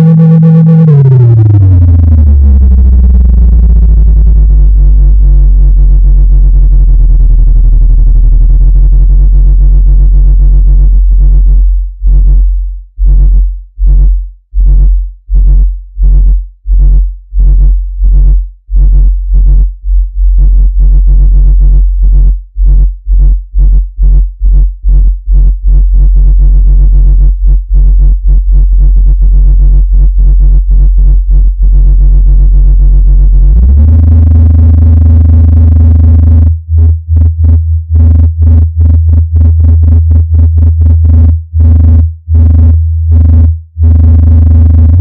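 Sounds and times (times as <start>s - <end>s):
pulsing low electronic tone: 0.0s - 45.0s.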